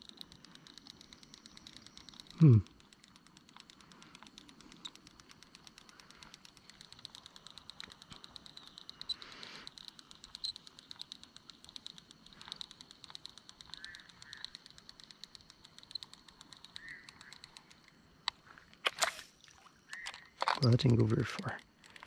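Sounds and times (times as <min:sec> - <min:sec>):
insects calling: 0:00.0 - 0:22.0
sharp clicks: 0:00.0 - 0:22.0.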